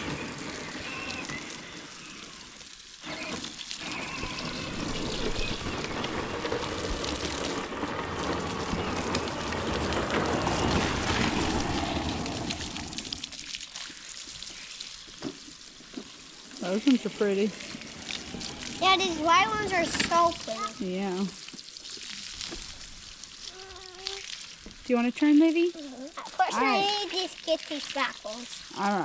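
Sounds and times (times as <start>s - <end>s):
garden hose spraying water: 0.0s - 29.0s.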